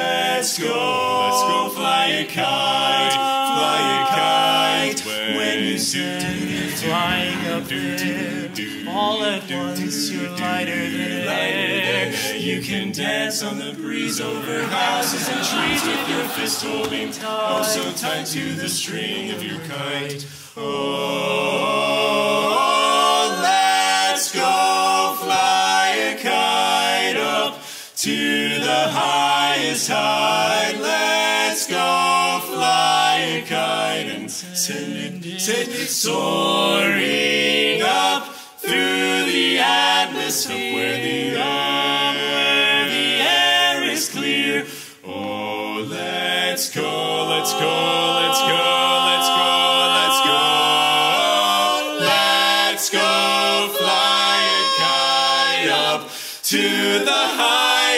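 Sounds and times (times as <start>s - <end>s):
male quartet singing a cappella: 0.0s - 57.9s.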